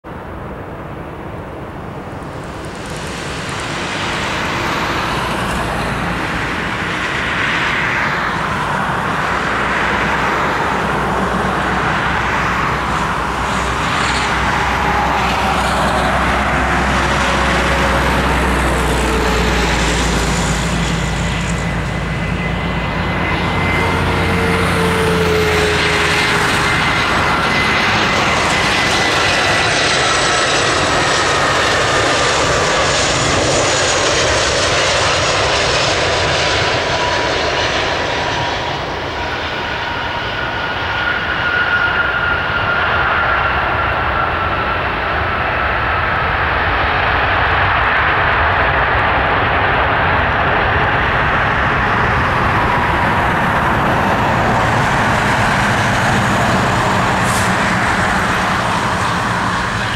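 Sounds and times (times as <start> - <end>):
jet engines roaring and whining: 0.0 - 59.9.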